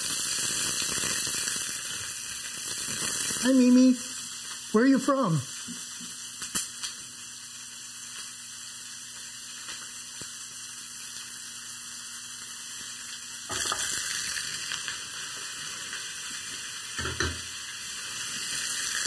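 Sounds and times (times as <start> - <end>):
sausage sizzling in a skillet: 0.0 - 19.0.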